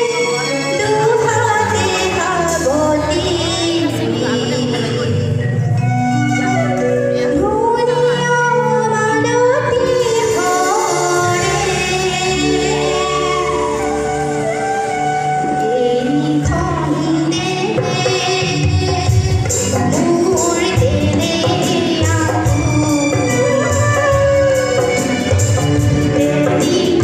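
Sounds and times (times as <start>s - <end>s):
small band playing: 0.0s - 27.0s
woman singing into microphone: 0.0s - 27.0s.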